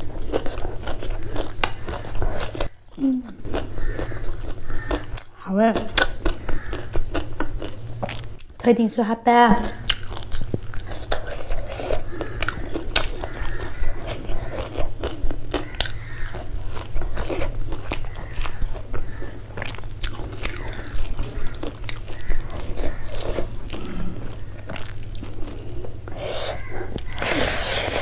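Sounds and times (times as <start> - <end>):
chewing and lip-smacking: 0.0 - 8.5, 9.7 - 28.0.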